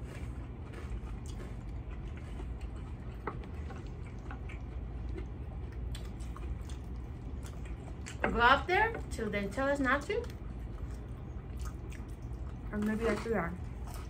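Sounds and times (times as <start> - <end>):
person chewing: 0.0 - 8.3, 10.2 - 14.0
low hum: 0.0 - 14.0.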